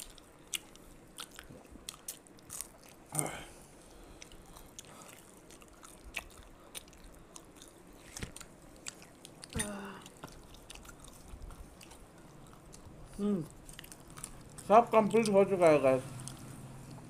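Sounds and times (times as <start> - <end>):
people chewing crunchy snacks: 0.0 - 17.0.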